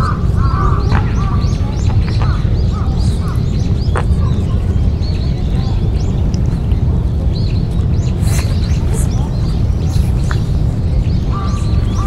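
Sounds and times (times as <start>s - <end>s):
birds chirping and calling: 0.0s - 12.0s
low rumble: 0.0s - 12.0s.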